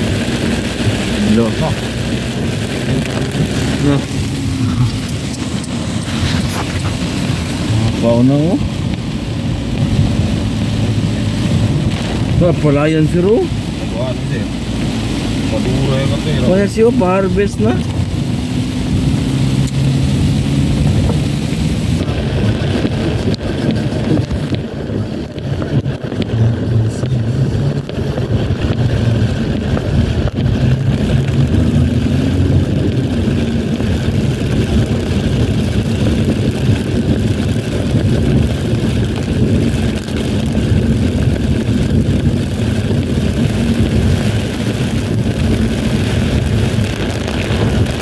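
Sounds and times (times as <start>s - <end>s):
car engine running low: 0.0s - 48.0s
heavy rain: 0.0s - 48.0s
tyres hissing on wet road: 0.0s - 48.0s.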